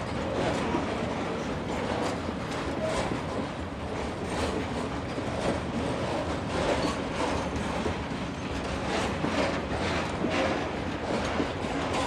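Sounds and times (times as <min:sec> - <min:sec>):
freight train wagons rolling: 0:00.0 - 0:12.0.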